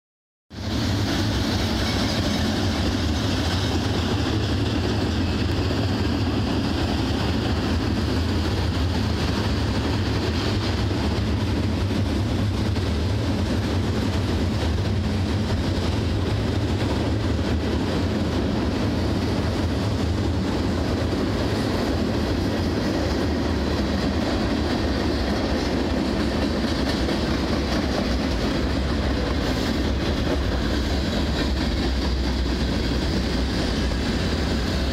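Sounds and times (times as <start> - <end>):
freight train wheels rumbling: 0.5 - 34.9.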